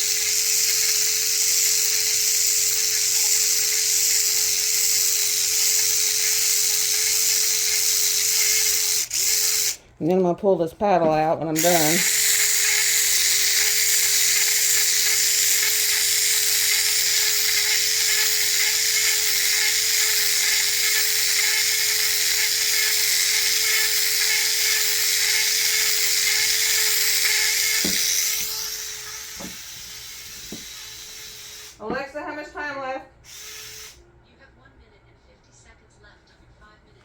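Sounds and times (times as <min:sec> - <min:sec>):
electric mixer whining: 0:00.0 - 0:09.8, 0:11.6 - 0:31.8.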